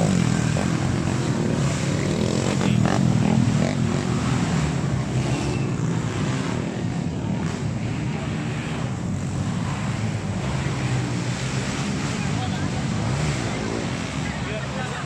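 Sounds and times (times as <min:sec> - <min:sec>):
motorcycle engines droning: 0:00.0 - 0:15.0.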